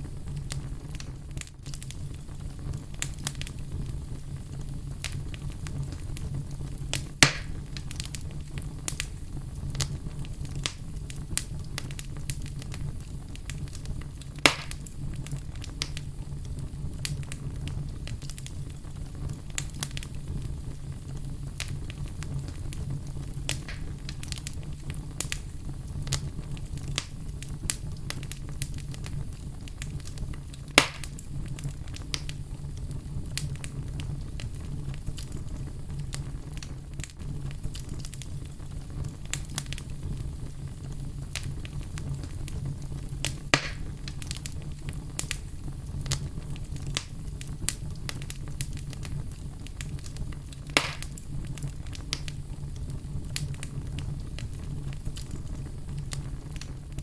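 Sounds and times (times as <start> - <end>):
fire crackling: 0.0 - 57.0
fire rumbling: 0.0 - 57.0
loud fire pops: 0.0 - 57.0.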